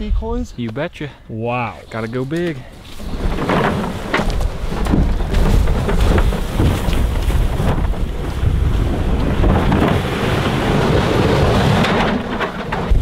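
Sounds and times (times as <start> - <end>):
sacks rustling and knocking: 1.9 - 13.0
wind buffeting microphone: 1.9 - 13.0.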